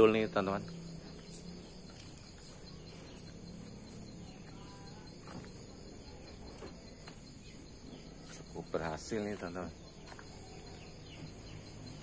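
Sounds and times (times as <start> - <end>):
faint bird chirps: 0.0 - 12.0
high-pitched insect drone: 0.0 - 12.0.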